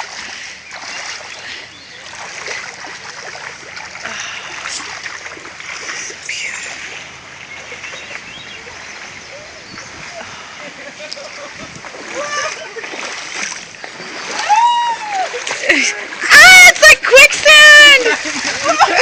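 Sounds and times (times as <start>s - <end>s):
stream water rushing: 0.0s - 19.0s
water splashing around wading legs: 0.0s - 19.0s.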